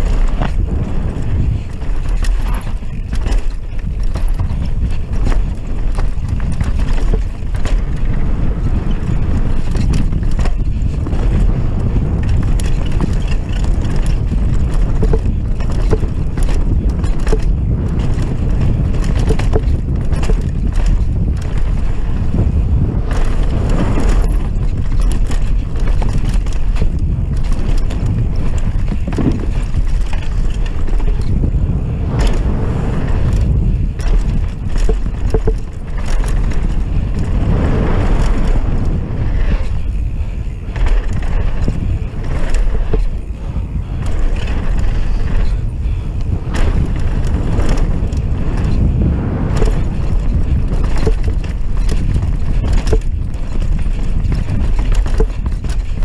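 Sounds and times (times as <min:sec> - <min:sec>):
bike rattling over bumps: 0:00.0 - 0:56.0
tyres running over dirt: 0:00.0 - 0:56.0
wind buffeting microphone: 0:00.0 - 0:56.0.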